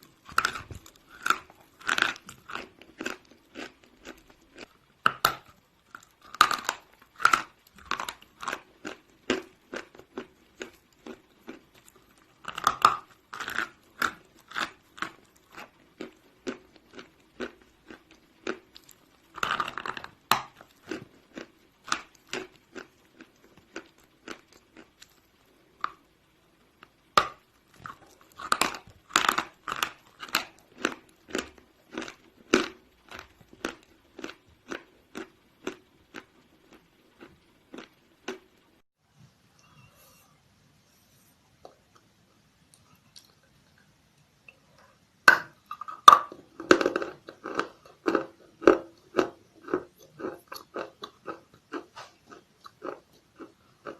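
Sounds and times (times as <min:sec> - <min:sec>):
steady chewing: 0:00.0 - 0:05.2, 0:05.9 - 0:26.1, 0:27.6 - 0:38.5, 0:46.6 - 0:53.9.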